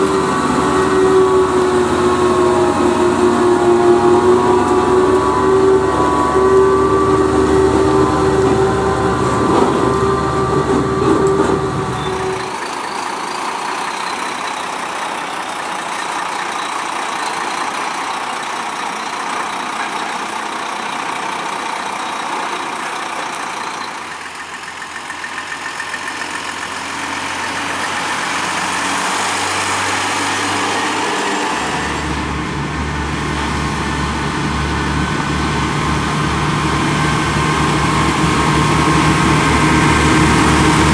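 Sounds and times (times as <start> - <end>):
diesel trucks driving past: 0.0 - 40.9
road and tyre noise: 0.0 - 40.9.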